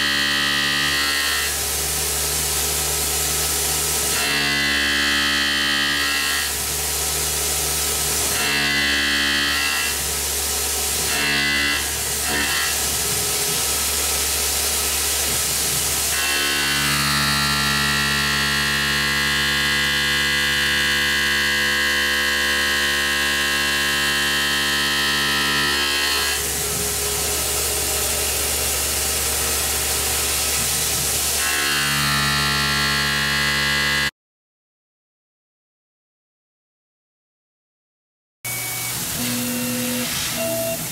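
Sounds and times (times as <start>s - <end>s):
milling machine whine: 0.0s - 34.1s, 38.5s - 40.9s.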